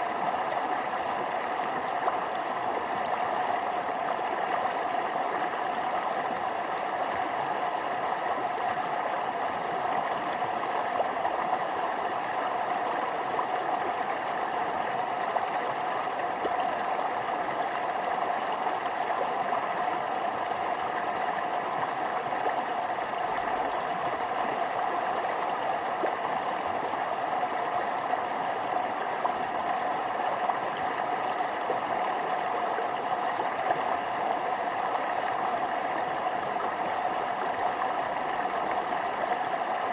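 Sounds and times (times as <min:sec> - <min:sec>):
stream rushing over small falls: 0:00.0 - 0:39.9.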